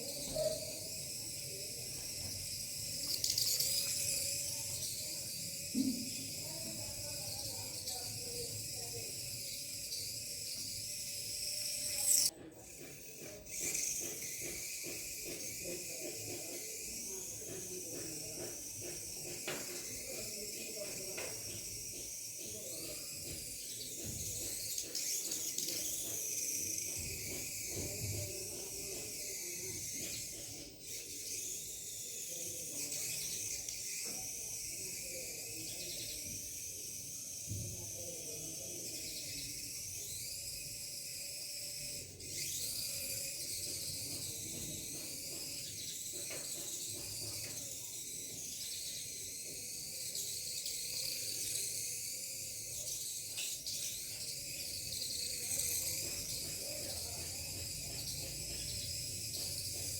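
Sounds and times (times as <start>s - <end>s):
toy car electric motor whine: 0.0s - 59.9s.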